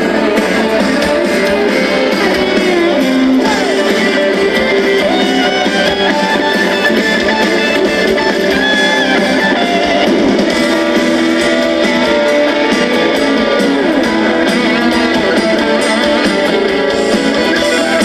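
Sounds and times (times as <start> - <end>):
band music: 0.0 - 18.0
electric guitar with sliding notes: 0.0 - 18.0.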